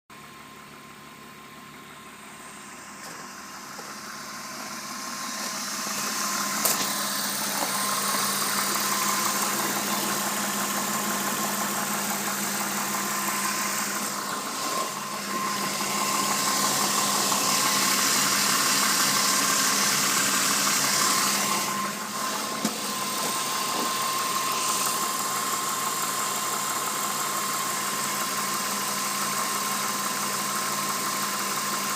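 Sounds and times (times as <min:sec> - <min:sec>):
car engine running: 0:00.1 - 0:31.9
engine rattling and knocking: 0:03.0 - 0:31.9.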